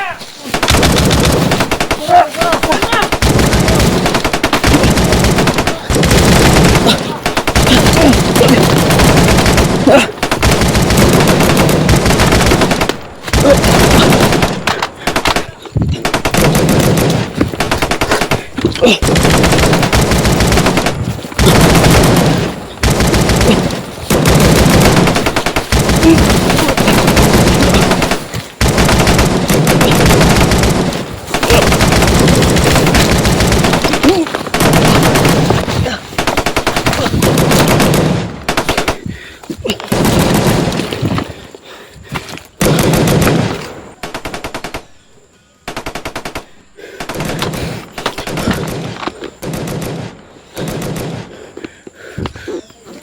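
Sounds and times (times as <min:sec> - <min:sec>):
automatic gunfire: 0:00.5 - 0:39.0, 0:39.9 - 0:41.0, 0:42.6 - 0:44.9, 0:45.7 - 0:51.3.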